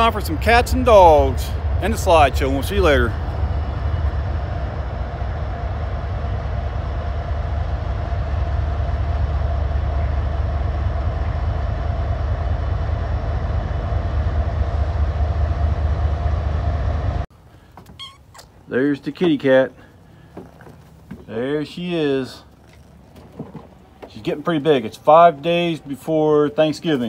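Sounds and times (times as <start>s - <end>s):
diesel locomotives idling: 0.0s - 17.8s, 18.5s - 27.0s.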